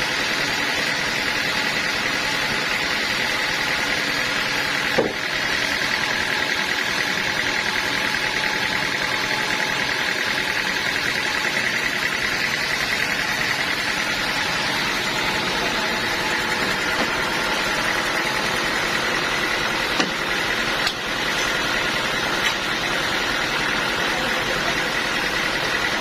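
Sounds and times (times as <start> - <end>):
sawmill machinery droning: 0.0 - 26.0.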